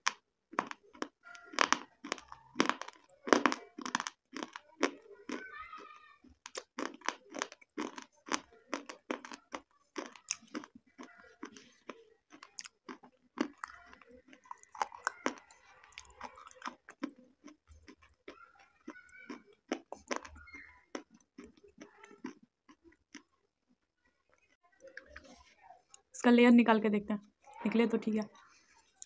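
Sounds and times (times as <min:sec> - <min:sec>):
person chewing food: 0:00.0 - 0:23.5, 0:24.3 - 0:26.1, 0:28.3 - 0:29.0.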